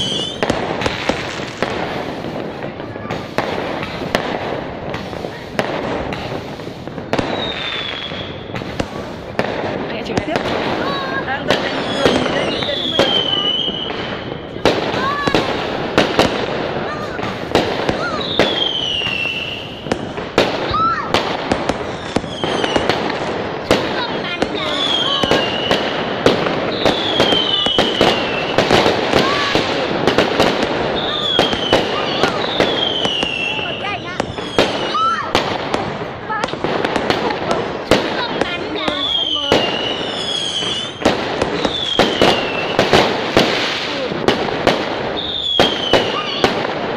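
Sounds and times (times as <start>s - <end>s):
fireworks bangs and cracks: 0.0s - 46.9s.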